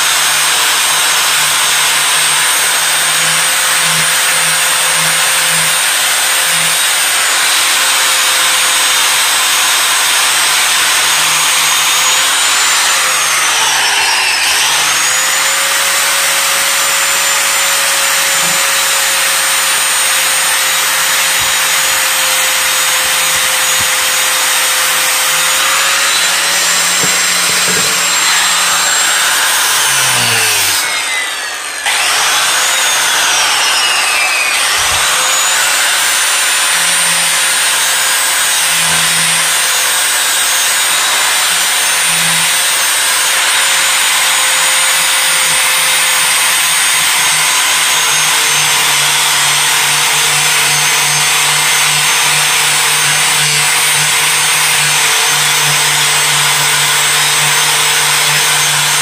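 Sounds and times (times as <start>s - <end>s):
angle grinder grinding metal: 0.0s - 59.0s.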